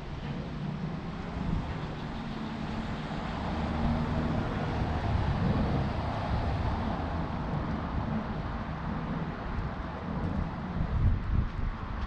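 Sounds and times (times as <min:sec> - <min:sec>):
road traffic passing: 0:00.0 - 0:12.0
wind buffeting microphone: 0:00.0 - 0:12.0.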